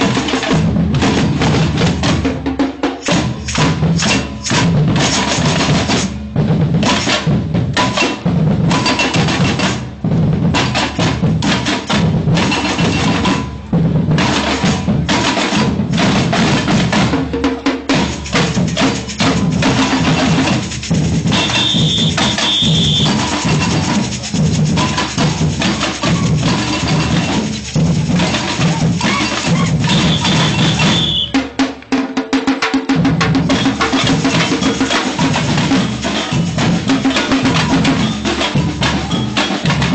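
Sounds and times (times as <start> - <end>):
batucada drumming: 0.0 - 39.9.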